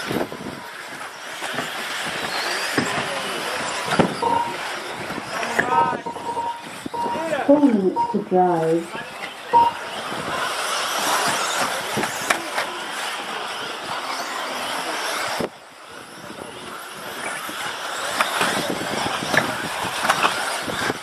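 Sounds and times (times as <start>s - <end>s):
model cars whirring: 0.0s - 7.6s, 8.4s - 21.0s.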